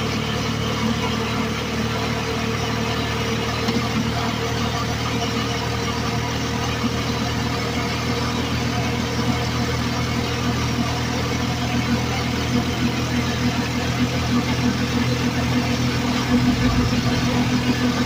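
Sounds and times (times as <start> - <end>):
vehicle engine running: 0.0 - 18.0
road and wind noise: 0.8 - 18.0.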